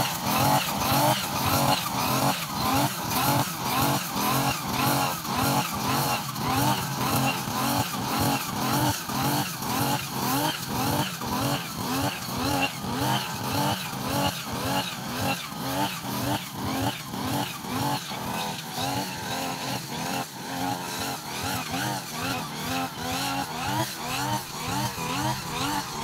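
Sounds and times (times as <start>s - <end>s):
brush cutter engine: 0.0s - 26.0s.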